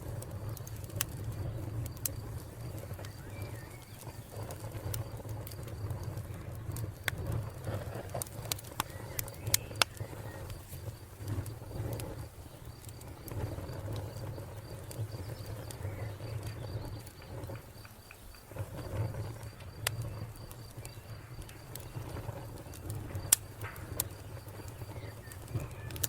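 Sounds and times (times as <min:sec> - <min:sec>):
low rumble of flames: 0:00.0 - 0:26.0
wood fire crackling: 0:00.0 - 0:26.0
cricket chirping: 0:01.2 - 0:26.0.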